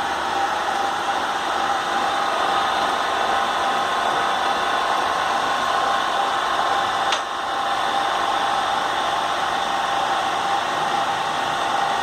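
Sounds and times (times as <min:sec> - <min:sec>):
machine drive humming and whining: 0:00.0 - 0:12.0.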